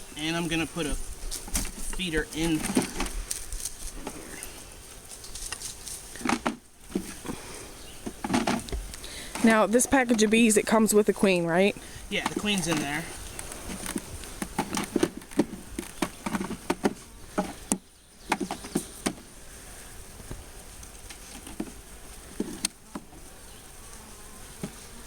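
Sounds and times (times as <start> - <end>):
honey bees buzzing: 0.0 - 25.0.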